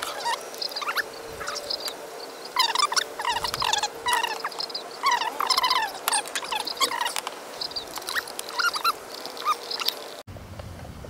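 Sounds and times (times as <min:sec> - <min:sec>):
small birds chirping: 0:00.0 - 0:10.2
faint steady hum: 0:00.0 - 0:11.0.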